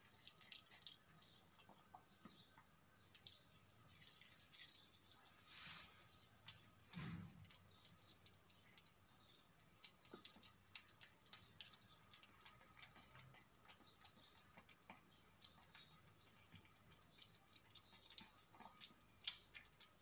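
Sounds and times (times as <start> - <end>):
kitten chewing and lapping food: 0.0 - 20.0.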